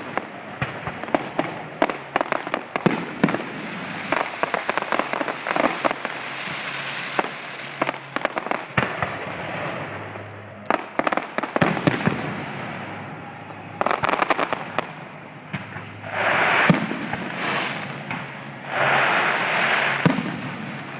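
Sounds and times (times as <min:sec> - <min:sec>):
fireworks cracking and banging: 0:00.0 - 0:20.9
fireworks crackling hiss: 0:00.0 - 0:20.9.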